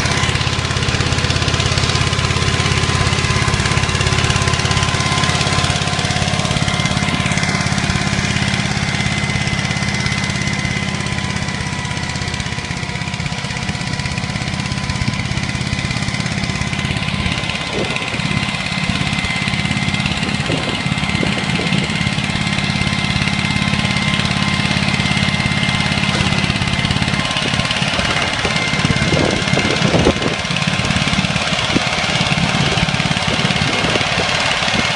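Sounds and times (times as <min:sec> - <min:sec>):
tractor engine under load: 0:00.0 - 0:34.9.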